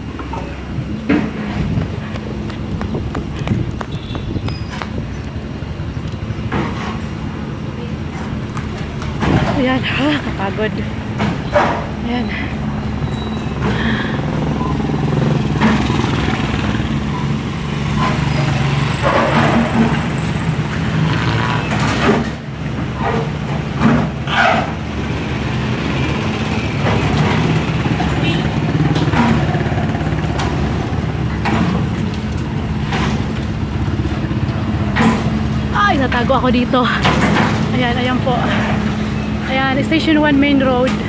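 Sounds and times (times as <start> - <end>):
engine running with low hum: 4.9 - 41.0.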